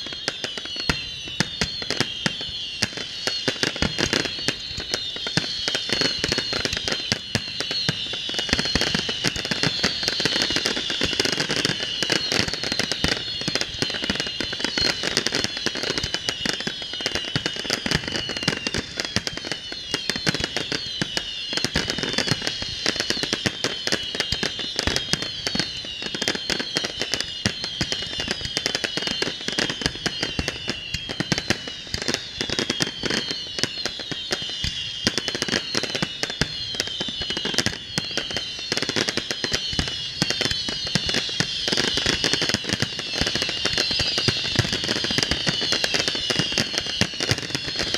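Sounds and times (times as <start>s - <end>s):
falling firework whistles: 0.0s - 47.9s
firework bursts and crackling: 0.0s - 47.9s.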